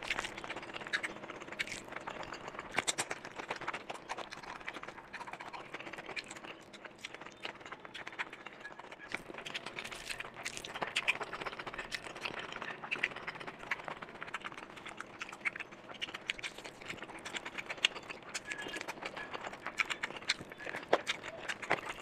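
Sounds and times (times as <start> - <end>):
chewing and lip smacking: 0.0 - 22.0
small food clicks and crackles: 0.0 - 22.0.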